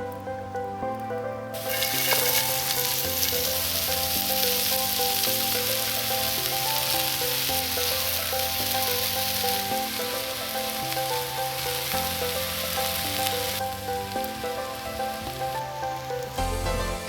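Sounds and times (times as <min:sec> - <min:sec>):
background music: 0:00.0 - 0:17.0
food sizzling in a pan: 0:01.6 - 0:17.0.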